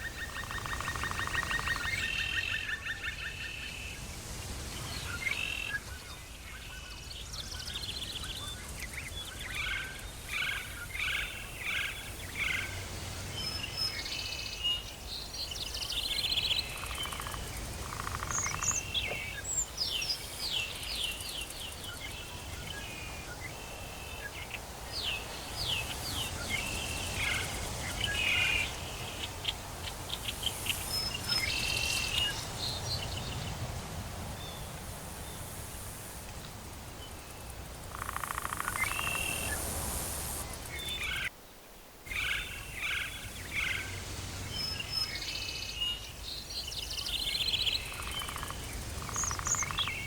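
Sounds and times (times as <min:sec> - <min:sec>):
steady background hiss: 0:00.0 - 0:50.0
birds calling and trilling: 0:04.8 - 0:33.6, 0:37.1 - 0:41.3, 0:42.1 - 0:50.0.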